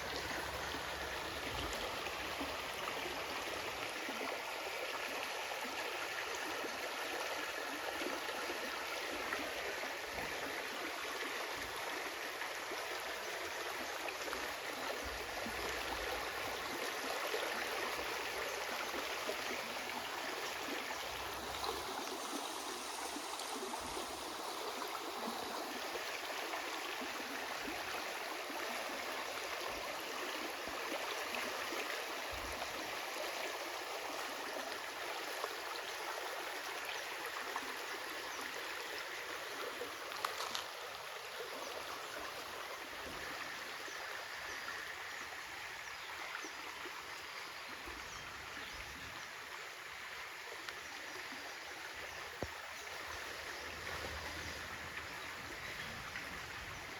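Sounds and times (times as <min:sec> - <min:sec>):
stream flowing and gurgling: 0:00.0 - 0:56.9.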